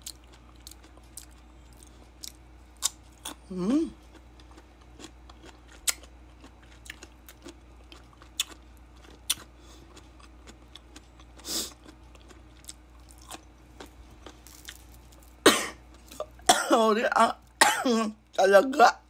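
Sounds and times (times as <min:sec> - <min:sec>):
person chewing mango: 0:00.0 - 0:16.5.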